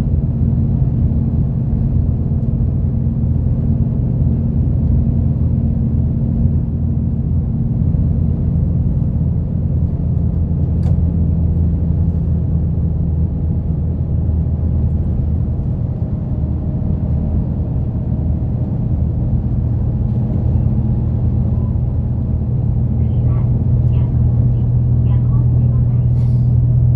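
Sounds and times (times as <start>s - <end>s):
bus engine humming: 0.0s - 26.9s.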